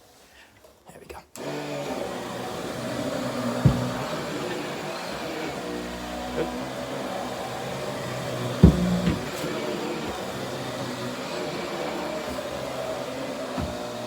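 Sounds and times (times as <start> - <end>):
vacuum cleaner running: 1.4 - 14.0
vacuum head knocking: 2.3 - 14.0.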